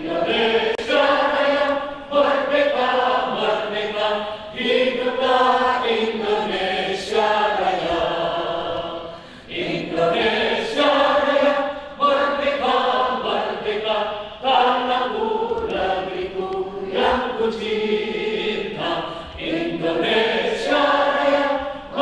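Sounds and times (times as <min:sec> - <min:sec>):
choir singing slow song: 0:00.0 - 0:22.0.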